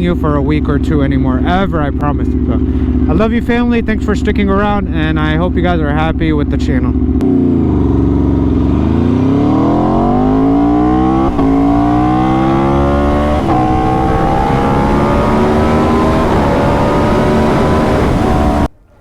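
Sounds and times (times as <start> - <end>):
engine accelerating hard: 0.0 - 18.8.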